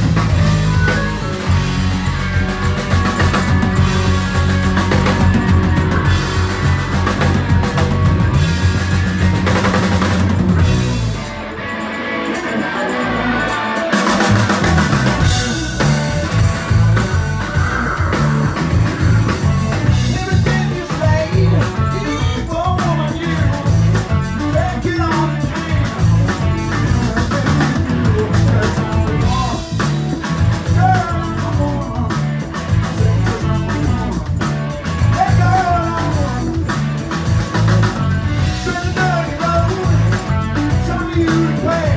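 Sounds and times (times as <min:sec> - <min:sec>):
bass guitar: 0:00.0 - 0:41.9
drums: 0:00.0 - 0:41.9
electric guitar: 0:00.0 - 0:41.9
organ: 0:00.0 - 0:41.9.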